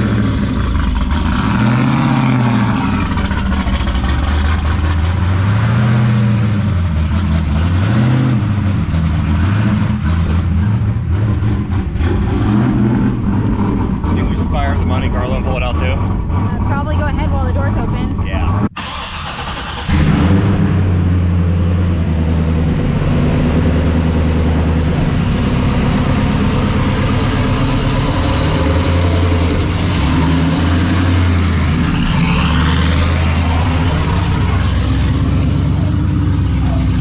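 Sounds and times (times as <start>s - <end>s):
engine idling unevenly: 0.0s - 7.8s, 8.4s - 20.0s, 20.8s - 37.0s.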